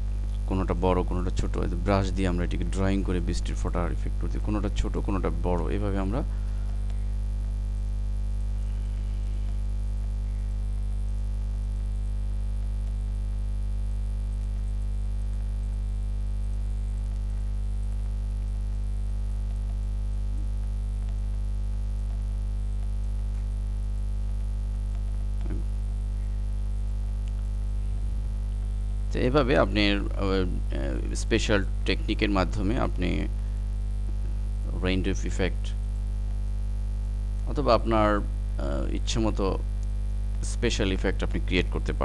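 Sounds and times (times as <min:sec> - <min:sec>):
electrical mains hum: 0:00.0 - 0:42.0.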